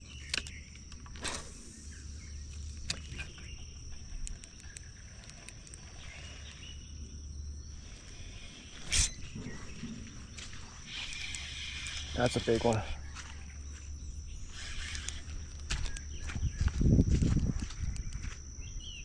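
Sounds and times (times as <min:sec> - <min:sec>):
high-pitched drone: 0:01.5 - 0:19.0.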